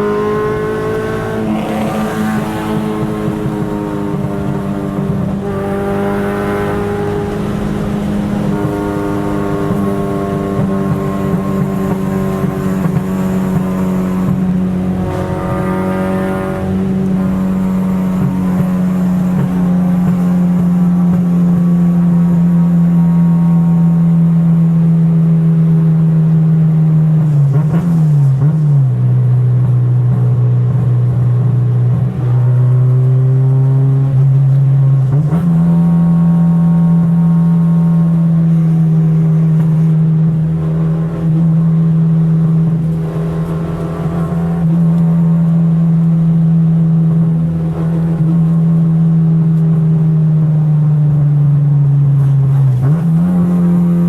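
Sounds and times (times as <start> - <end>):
car engine running at high speed: 0.0 - 54.0.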